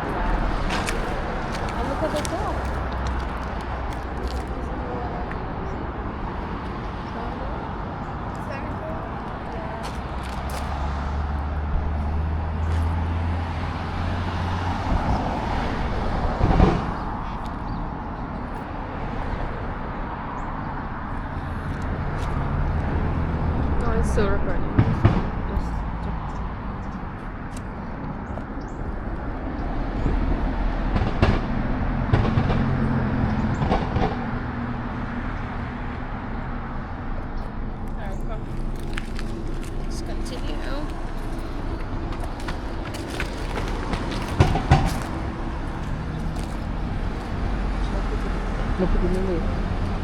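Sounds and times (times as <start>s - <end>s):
road noise: 0.0s - 50.0s
traffic noise: 0.0s - 50.0s
vehicle engine drone: 0.0s - 50.0s.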